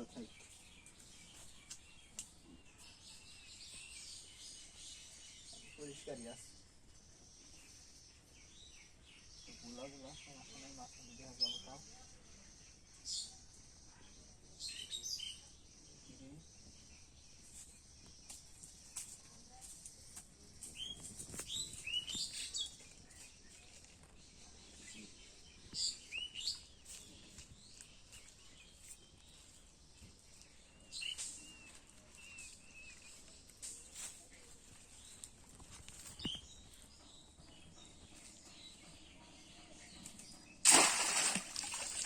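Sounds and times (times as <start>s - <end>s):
birds chirping: 0.0s - 42.0s.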